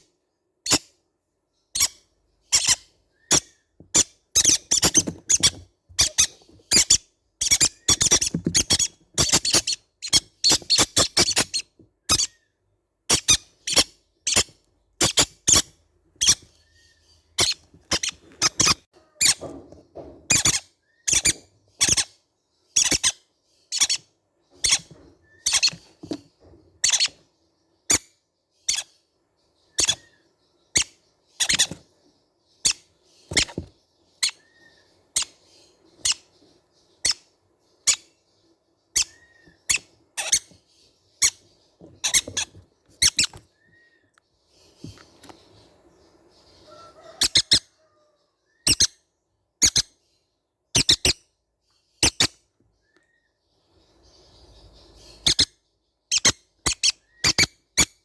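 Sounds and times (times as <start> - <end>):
parrot chicks squeaky calls: 0.6 - 0.9, 1.7 - 31.9, 32.5 - 50.1, 50.7 - 51.3, 51.9 - 58.0.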